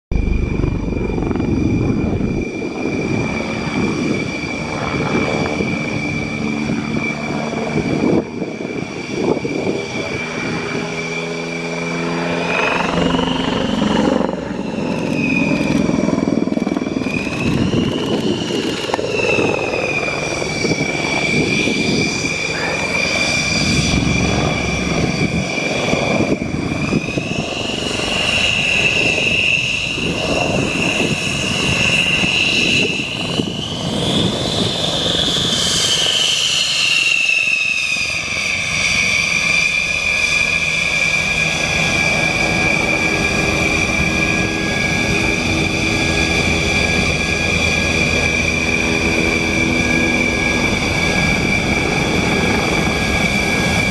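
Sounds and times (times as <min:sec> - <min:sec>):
jet engines whining: 0:00.1 - 0:53.9.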